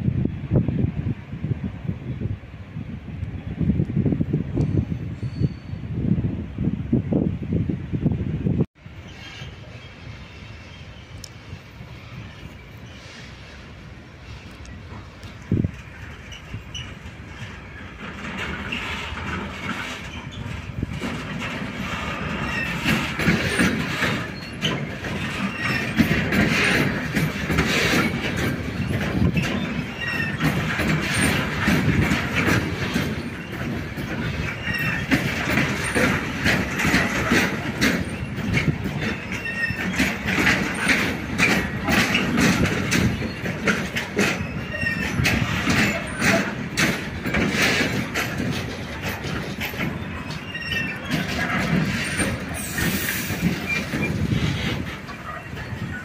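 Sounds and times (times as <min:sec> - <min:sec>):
high wheel squeals: 0:04.6 - 0:06.0, 0:08.9 - 0:56.0
train wheels clattering over rails: 0:08.8 - 0:56.0.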